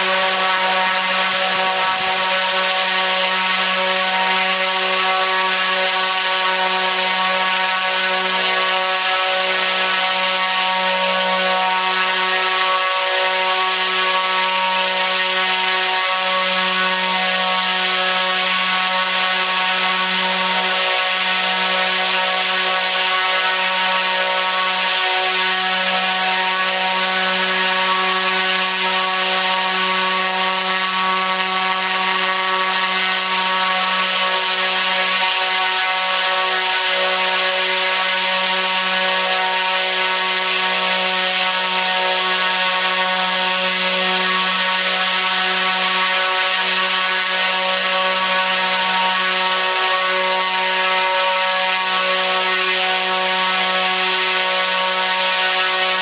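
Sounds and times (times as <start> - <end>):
propeller motor drone: 0.0 - 56.0.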